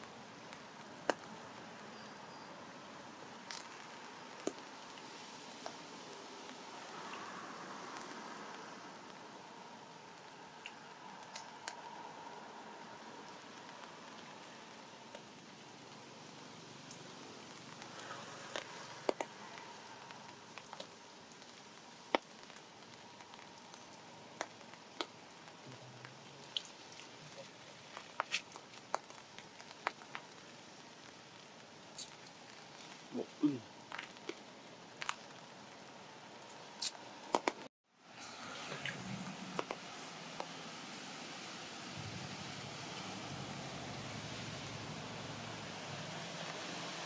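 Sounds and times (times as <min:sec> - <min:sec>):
faint background hiss: 0:00.0 - 0:47.0.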